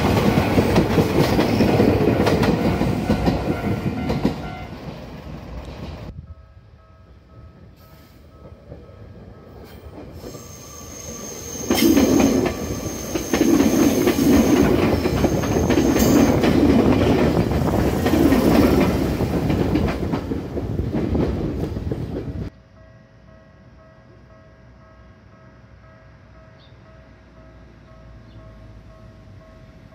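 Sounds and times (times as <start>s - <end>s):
electric train passing: 0.0s - 29.9s.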